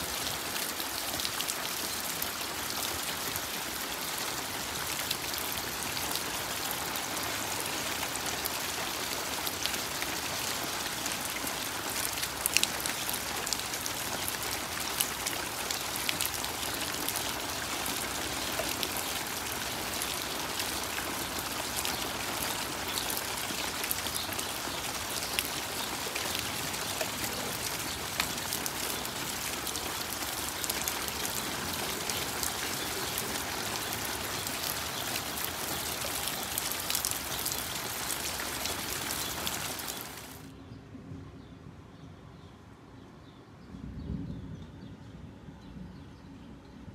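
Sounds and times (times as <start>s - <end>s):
steady rain hiss: 0.0s - 40.5s.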